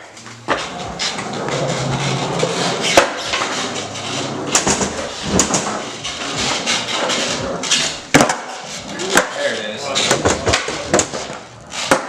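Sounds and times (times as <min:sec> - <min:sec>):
skateboard clacking on floor: 0:00.0 - 0:12.0
skateboard wheels rolling: 0:00.0 - 0:12.0.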